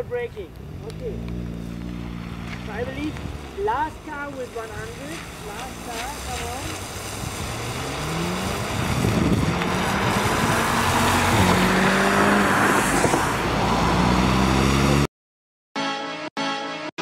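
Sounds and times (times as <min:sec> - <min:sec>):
car engine accelerating: 0:00.5 - 0:15.1
tyres hissing on wet road: 0:00.6 - 0:15.0.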